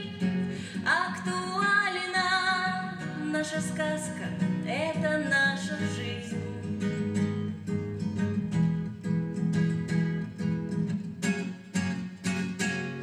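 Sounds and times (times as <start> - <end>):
classical guitar strummed: 0.0 - 13.0.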